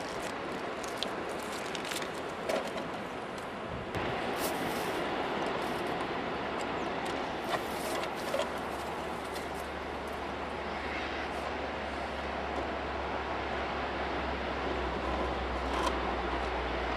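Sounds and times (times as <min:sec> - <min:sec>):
wind blowing across microphone: 0:00.0 - 0:16.9.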